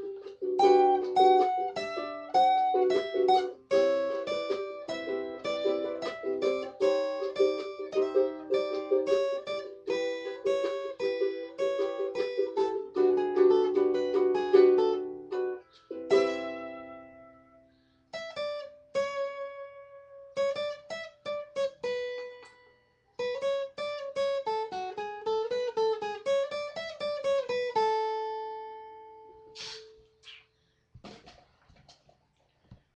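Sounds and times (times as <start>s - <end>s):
plucked string melody: 0.0s - 30.0s.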